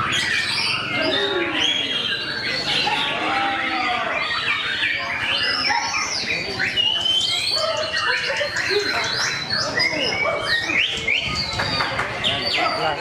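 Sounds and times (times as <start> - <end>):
birds singing whistled phrases: 0.0 - 13.0.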